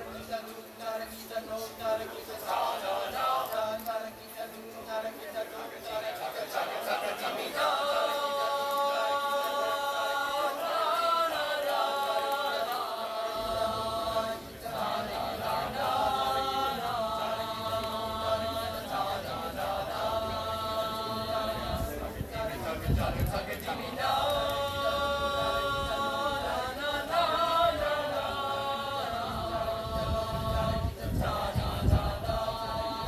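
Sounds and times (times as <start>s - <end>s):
choir singing a cappella: 0.0s - 33.0s.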